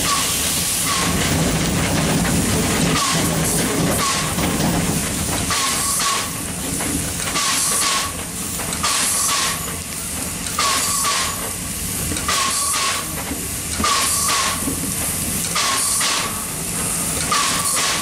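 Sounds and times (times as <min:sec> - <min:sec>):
rumble of moving train: 0:00.0 - 0:18.0
steam locomotive chuffs: 0:00.0 - 0:18.0.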